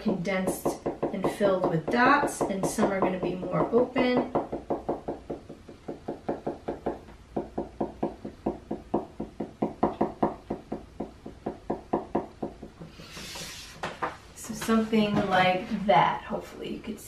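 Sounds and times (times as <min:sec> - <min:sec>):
marker tapping on paper: 0:00.0 - 0:14.2.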